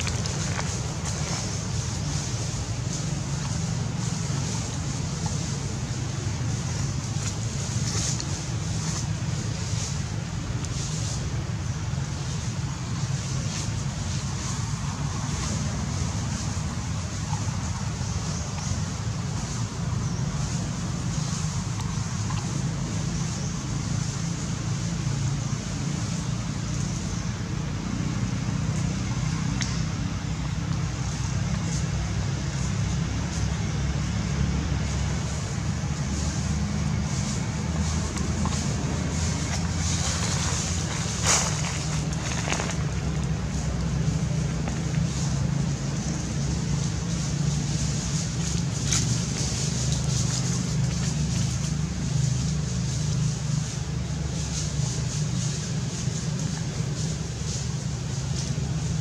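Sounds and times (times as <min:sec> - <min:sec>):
engine droning: 0:00.0 - 0:59.0
outdoor background rumble: 0:00.0 - 0:59.0.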